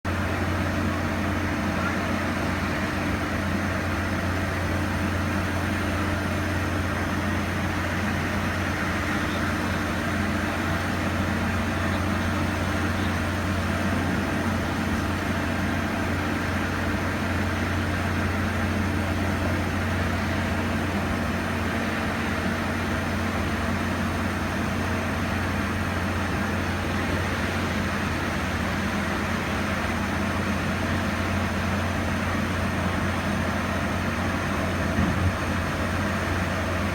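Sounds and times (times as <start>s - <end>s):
engine running low drone: 0.0s - 36.9s.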